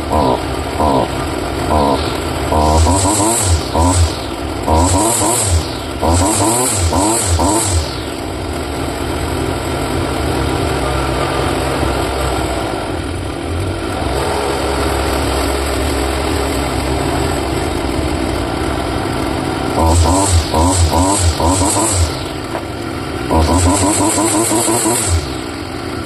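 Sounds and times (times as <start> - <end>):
string trimmer engine revving: 0.0 - 26.0.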